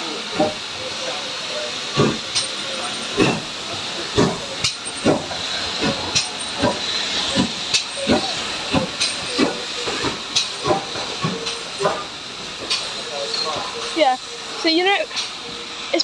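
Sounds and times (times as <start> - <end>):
steam hissing: 0.0 - 16.0
steam locomotive chuffing: 0.0 - 16.0.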